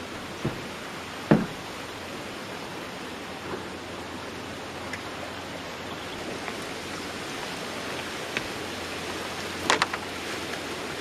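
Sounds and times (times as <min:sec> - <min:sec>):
fast-flowing river water rushing: 0:00.0 - 0:11.0.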